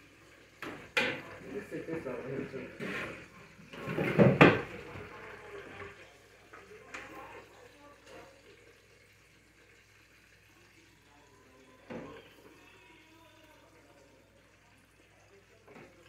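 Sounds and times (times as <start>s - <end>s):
oil sizzling in deep fryer: 0.0s - 16.0s.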